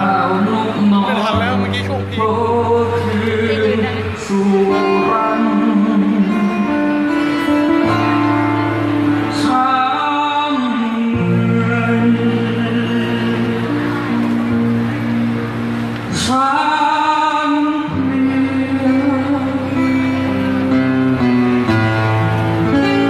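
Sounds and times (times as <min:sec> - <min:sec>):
man singing slow song: 0:00.0 - 0:15.4, 0:16.0 - 0:23.0
acoustic guitar strumming: 0:00.0 - 0:23.0.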